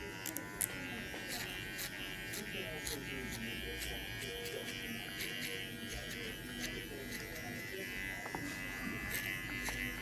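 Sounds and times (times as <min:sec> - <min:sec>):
electric hair clippers buzzing: 0:00.0 - 0:10.0.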